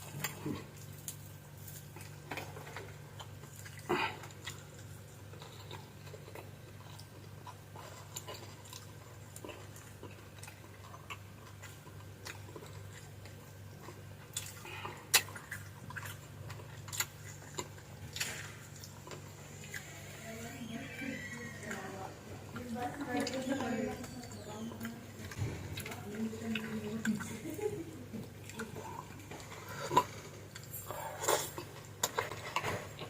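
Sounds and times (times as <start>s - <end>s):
person chewing food: 0.0s - 33.0s
steady low hum: 0.0s - 33.0s.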